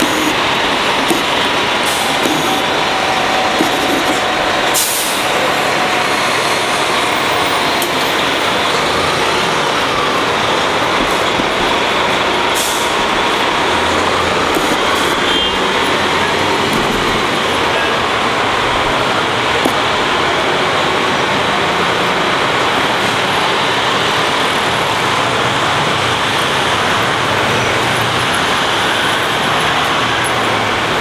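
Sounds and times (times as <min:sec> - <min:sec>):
bus engine driving off: 0:00.0 - 0:31.0
traffic rumble: 0:00.0 - 0:31.0.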